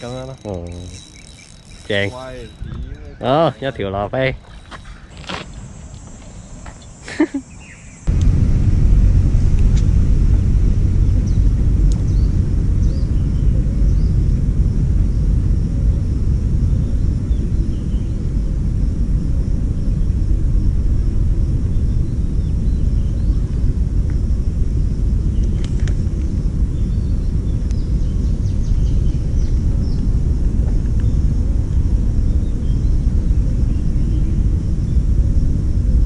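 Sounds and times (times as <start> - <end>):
wind buffeting microphone: 0.0 - 5.1, 8.0 - 36.0
faint high drone: 0.0 - 36.0.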